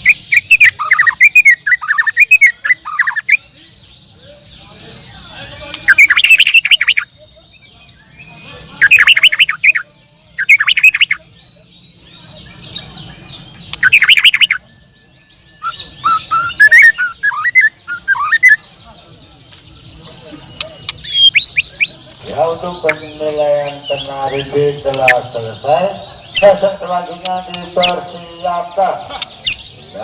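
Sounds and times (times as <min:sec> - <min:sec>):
songbirds trilling and warbling: 0:00.0 - 0:30.0.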